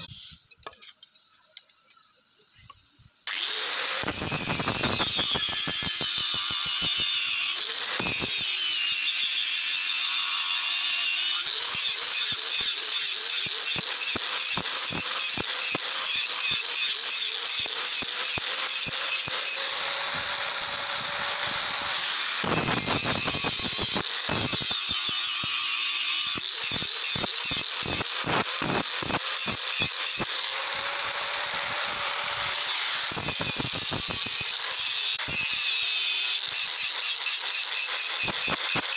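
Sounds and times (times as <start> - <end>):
angle grinder motor whine: 3.3 - 38.9.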